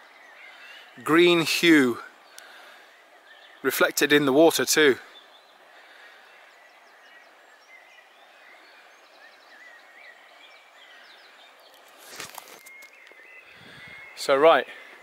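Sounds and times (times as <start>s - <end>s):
birdsong chirps and warbling: 0.0s - 15.0s.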